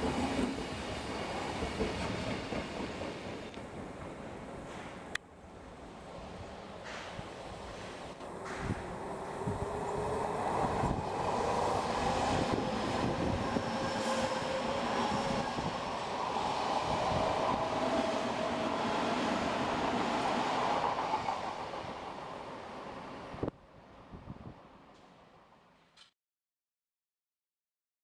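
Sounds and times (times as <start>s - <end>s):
train whine: 0.0s - 23.5s.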